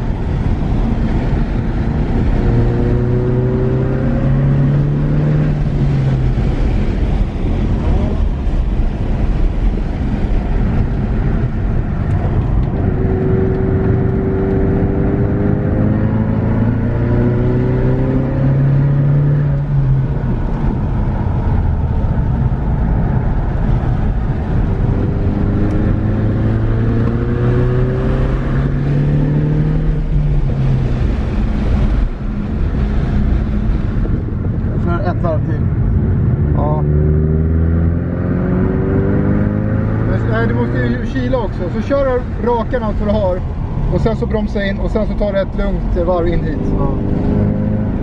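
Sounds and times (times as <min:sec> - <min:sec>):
car engine accelerating: 0:00.0 - 0:48.0
road and wind noise: 0:00.0 - 0:48.0.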